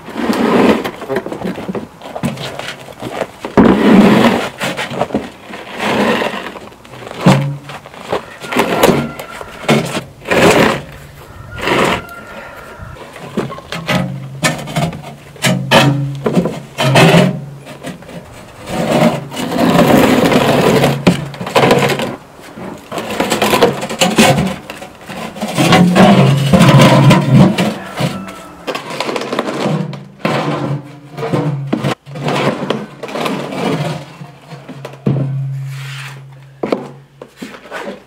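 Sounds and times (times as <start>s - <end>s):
concrete slab scraping on steel: 0.0s - 38.0s.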